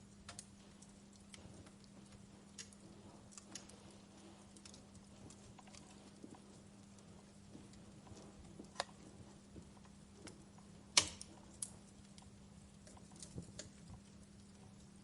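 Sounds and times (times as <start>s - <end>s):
faint low hum: 0.0s - 15.0s
wood fire crackling: 0.0s - 15.0s.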